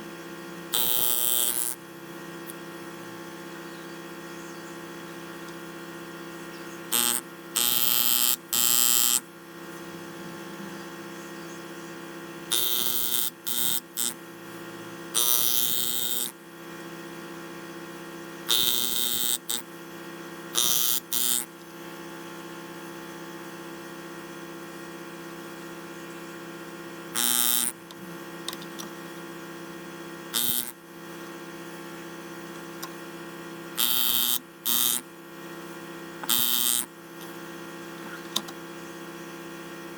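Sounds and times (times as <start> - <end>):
electric hum: 0.0 - 17.5, 18.4 - 21.9, 26.0 - 39.9.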